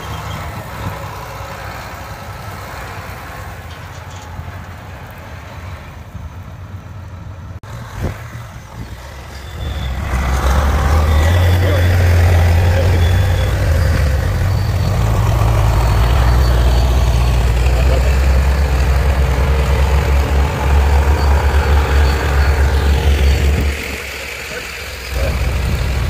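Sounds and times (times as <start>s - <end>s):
tractor diesel engine drone: 0.0s - 26.0s.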